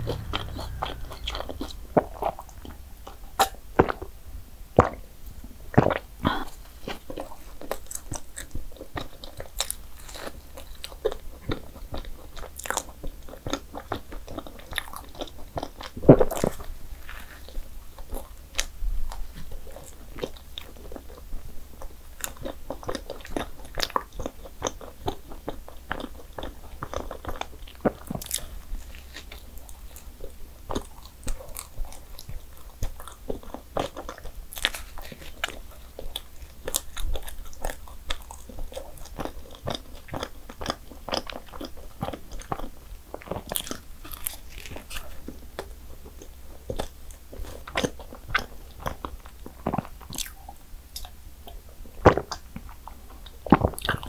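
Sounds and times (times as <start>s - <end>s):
biting and chewing: 5.7s - 54.0s.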